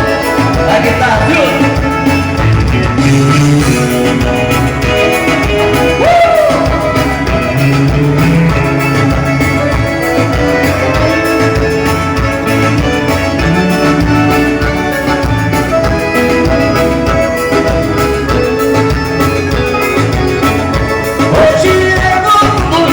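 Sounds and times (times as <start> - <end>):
accordion: 0.0 - 22.9
bass: 0.0 - 22.9
steady beat: 0.0 - 22.9.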